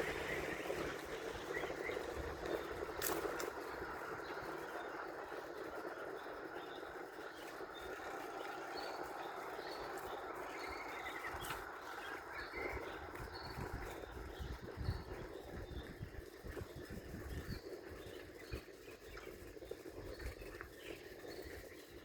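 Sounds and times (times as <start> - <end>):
outdoor background rush: 0.0 - 22.0
small birds chirping: 0.0 - 22.0.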